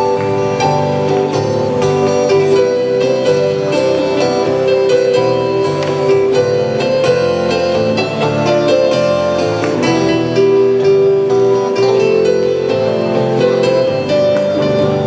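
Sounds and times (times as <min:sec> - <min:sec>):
keyboard playing sustained chords: 0:00.0 - 0:15.0
steady bass line: 0:00.0 - 0:15.0.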